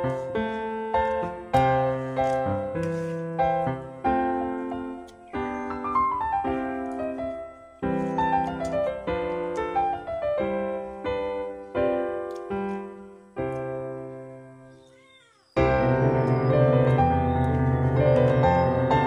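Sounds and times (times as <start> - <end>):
piano music: 0.0 - 14.8, 15.6 - 19.0.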